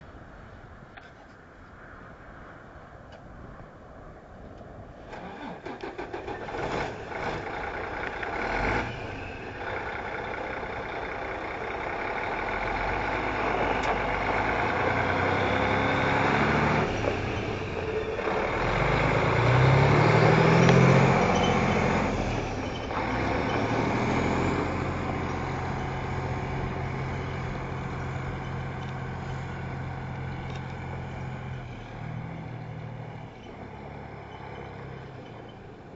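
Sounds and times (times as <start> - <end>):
diesel truck engine starting and idling: 5.0 - 35.9.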